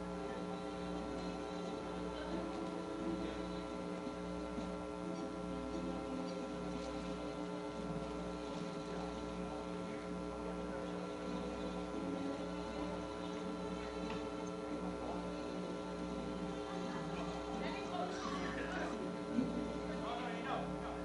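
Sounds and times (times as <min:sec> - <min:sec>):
steady hum of held tones: 0:00.0 - 0:21.0.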